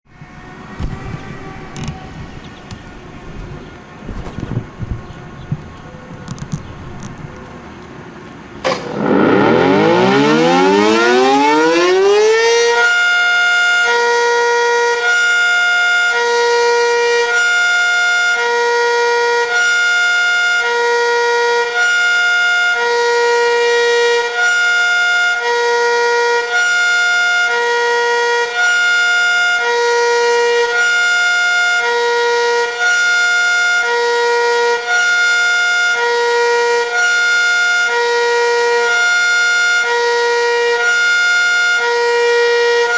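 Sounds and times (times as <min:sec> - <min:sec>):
warning siren wailing: 0:00.1 - 0:03.6, 0:08.6 - 0:42.9.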